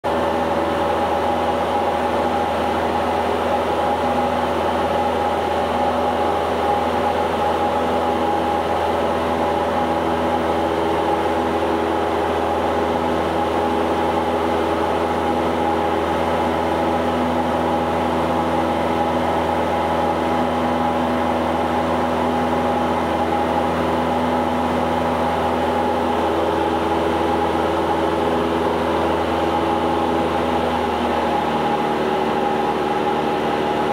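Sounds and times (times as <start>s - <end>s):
plane engine droning in cabin: 0.1s - 33.9s.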